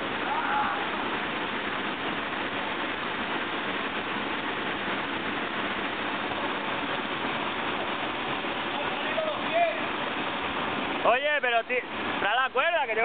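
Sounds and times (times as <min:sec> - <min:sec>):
water rushing down rock chute: 0:00.0 - 0:13.0.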